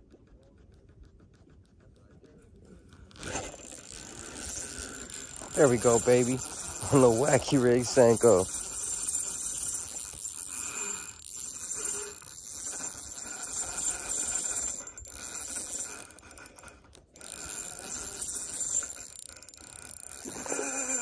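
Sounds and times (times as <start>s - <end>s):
fishing reel clicking and rattling: 2.9s - 21.0s.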